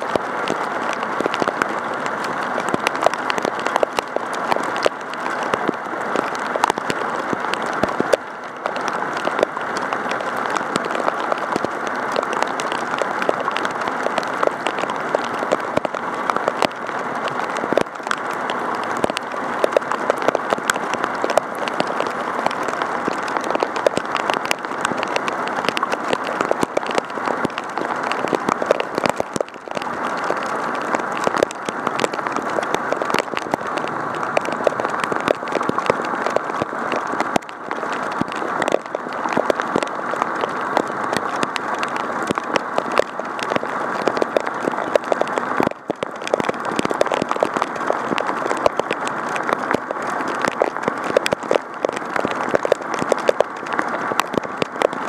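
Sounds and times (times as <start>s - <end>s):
heavy rain hitting camera: 0.0s - 55.0s.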